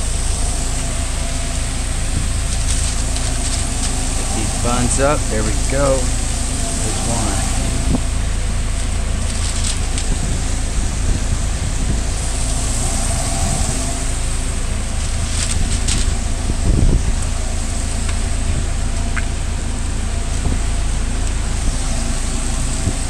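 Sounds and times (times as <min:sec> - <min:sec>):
exhaust fans droning: 0:00.0 - 0:23.0.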